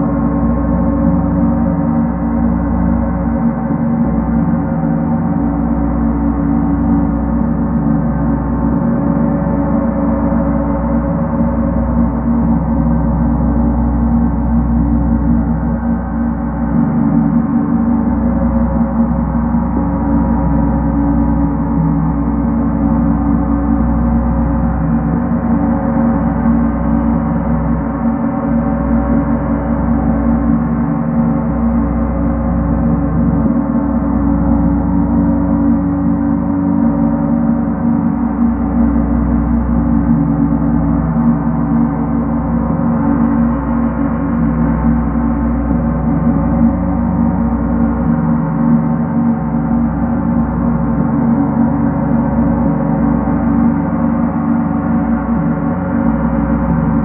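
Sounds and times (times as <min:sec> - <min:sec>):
gong drone: 0:00.0 - 0:57.0.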